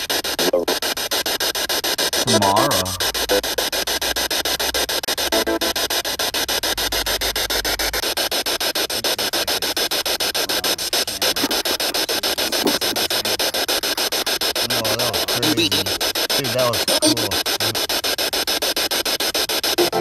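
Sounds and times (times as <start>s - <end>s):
chopping radio static: 0.0s - 20.0s
scraps of pitched sound: 0.0s - 20.0s.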